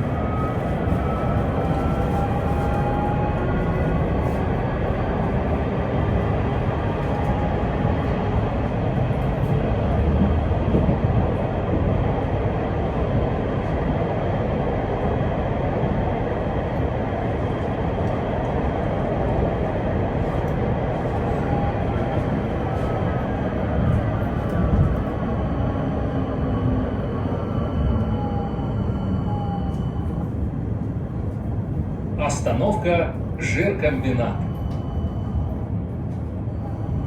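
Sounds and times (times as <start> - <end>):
tram wheels rumbling on rails: 0.0 - 37.0.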